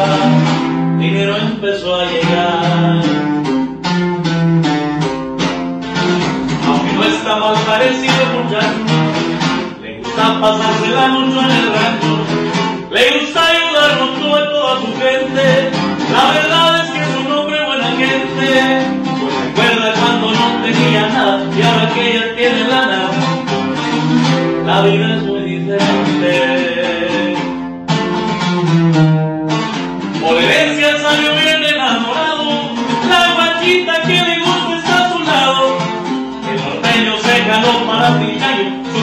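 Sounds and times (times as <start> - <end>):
guitar music with melody: 0.0 - 39.0.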